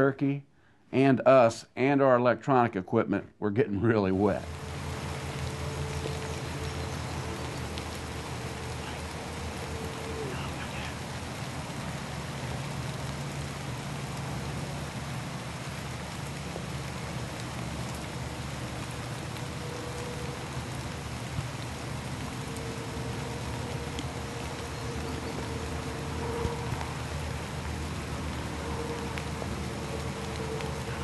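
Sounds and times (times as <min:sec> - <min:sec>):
low steady hum: 0:02.9 - 0:31.0
rain hissing: 0:04.1 - 0:31.0.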